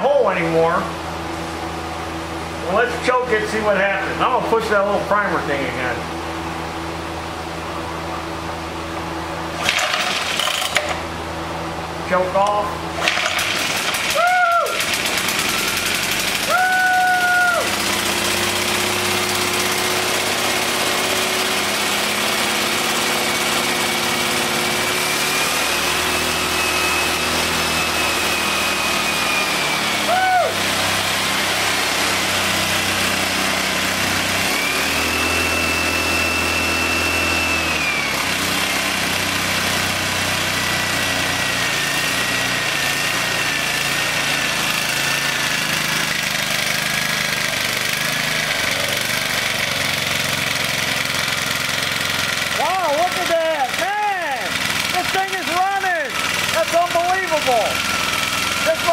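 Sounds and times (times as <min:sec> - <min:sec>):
small engine running: 0:09.4 - 0:11.4, 0:12.1 - 0:58.9.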